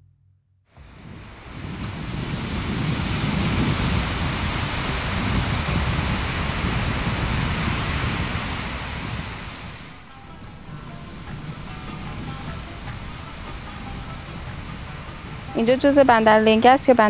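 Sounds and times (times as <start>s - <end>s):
waves breaking on beach: 0.8s - 17.0s.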